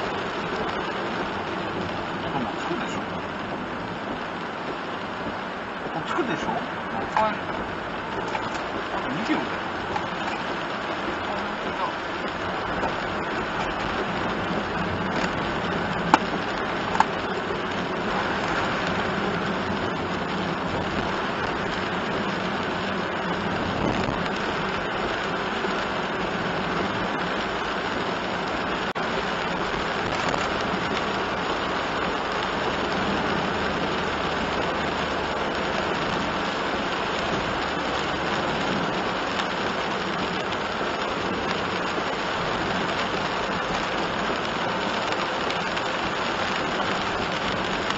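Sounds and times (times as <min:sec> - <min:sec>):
heavy rain on a vehicle: 0:00.0 - 0:47.9
tyres hissing on wet road: 0:00.0 - 0:47.9.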